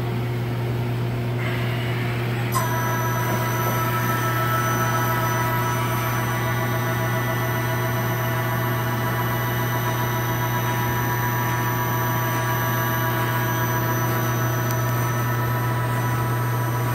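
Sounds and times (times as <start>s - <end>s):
machine hum with held tones: 0.0s - 16.9s.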